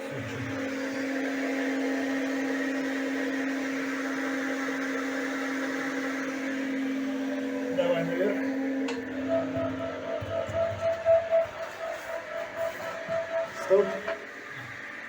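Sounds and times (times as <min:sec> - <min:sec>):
water pump humming: 0:00.0 - 0:15.0.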